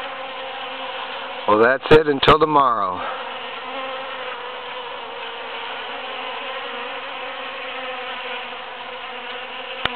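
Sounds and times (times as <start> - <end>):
bees buzzing: 0.0 - 9.9.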